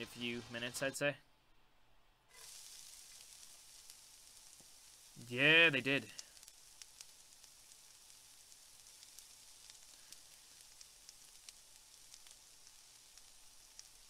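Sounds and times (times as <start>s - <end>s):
food sizzling in a pan: 0.0s - 1.1s, 2.3s - 14.0s.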